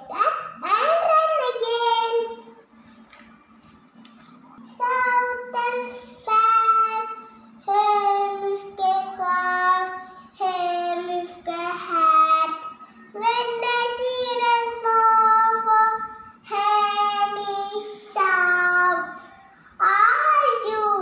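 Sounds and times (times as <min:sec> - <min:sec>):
girl singing unaccompanied: 0:00.0 - 0:02.5, 0:04.6 - 0:21.0.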